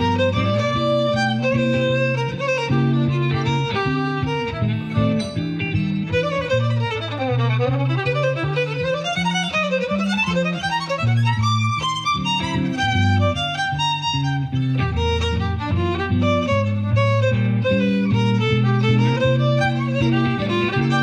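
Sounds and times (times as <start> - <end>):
low bass line: 0.0 - 8.7, 12.4 - 21.0
violin playing blues melody: 0.0 - 21.0.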